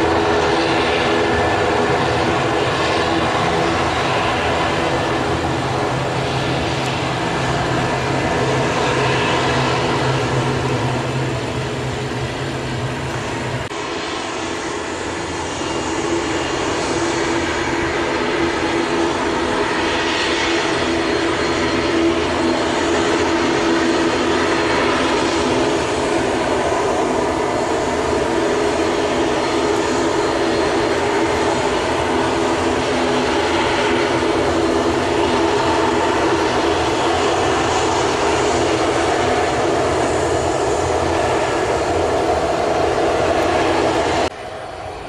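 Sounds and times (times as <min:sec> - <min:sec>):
constant hum: 0:00.0 - 0:45.0
jet engine drone: 0:00.0 - 0:45.0.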